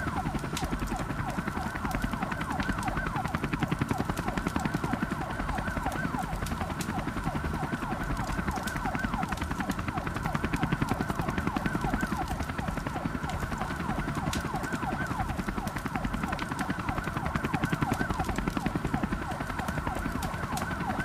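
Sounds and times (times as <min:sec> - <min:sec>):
siren in falling sweeps: 0:00.0 - 0:21.0.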